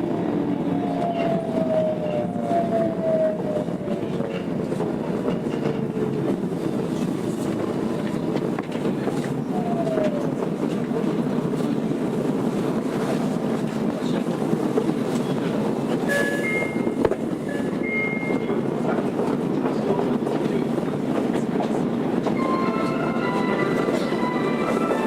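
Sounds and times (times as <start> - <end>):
wheel and rail rumble: 0.0 - 25.0.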